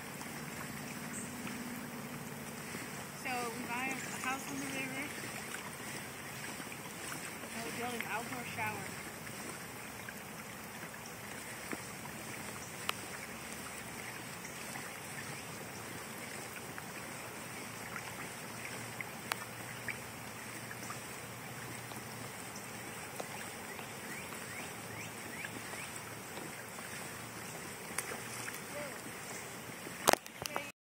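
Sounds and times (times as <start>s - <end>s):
water lapping against kayak hull: 0.0s - 30.7s.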